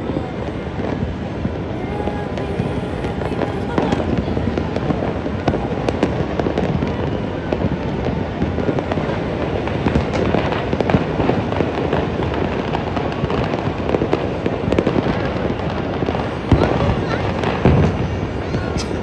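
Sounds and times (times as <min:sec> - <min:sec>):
fireworks and firecrackers banging: 0:00.0 - 0:19.0.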